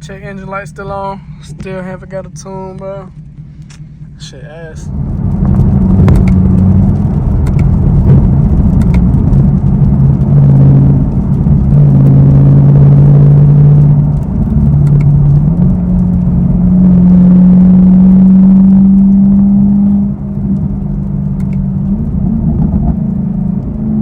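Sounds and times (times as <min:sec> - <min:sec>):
car engine and exhaust droning: 0:00.0 - 0:24.0.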